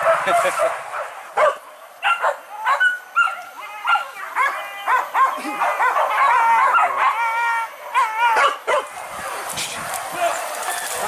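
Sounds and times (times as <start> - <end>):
dogs yelping and baying: 0.0 - 9.5.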